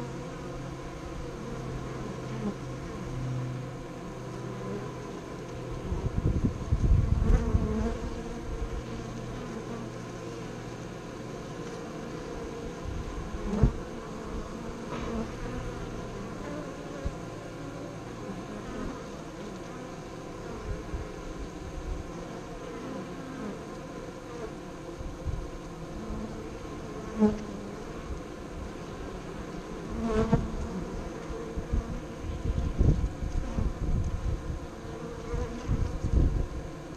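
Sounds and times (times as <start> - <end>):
bees buzzing: 0.0 - 36.9.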